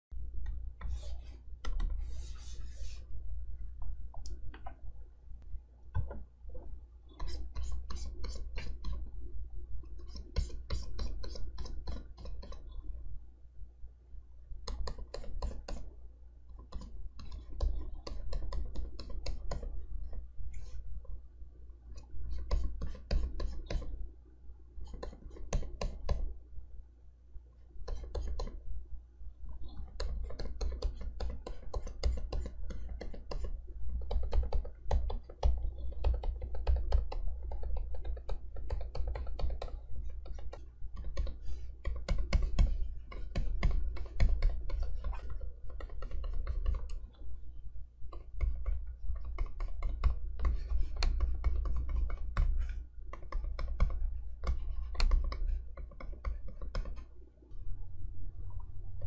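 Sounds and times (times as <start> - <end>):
steady low hum: 0.1 - 59.0
stylus tapping and scratching screen: 0.4 - 4.9, 5.9 - 13.2, 14.6 - 24.2, 24.8 - 26.4, 27.6 - 28.8, 29.4 - 59.0.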